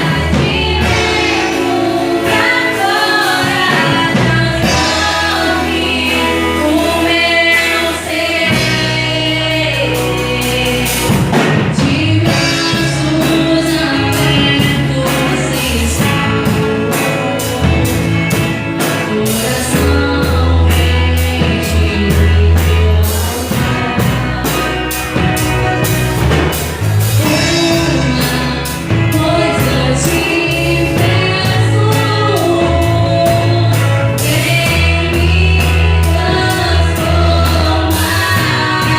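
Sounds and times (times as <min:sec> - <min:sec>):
person singing: 0:00.0 - 0:25.8, 0:27.0 - 0:38.9
steady drum beat: 0:00.0 - 0:38.9
worship song by band: 0:00.0 - 0:38.9.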